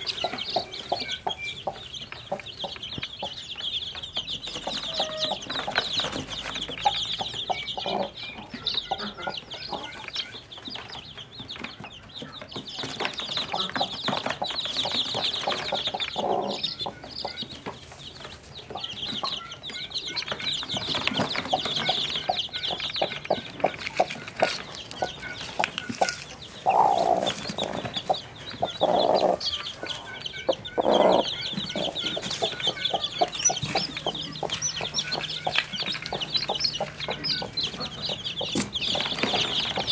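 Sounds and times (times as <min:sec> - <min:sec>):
hen clucking: 0:00.0 - 0:10.4, 0:13.1 - 0:39.9
chicks peeping: 0:00.0 - 0:39.9.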